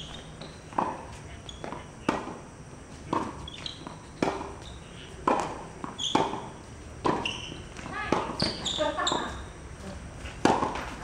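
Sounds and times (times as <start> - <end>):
tennis ball struck by rackets: 0.0 - 2.4, 3.1 - 9.4, 10.4 - 11.0.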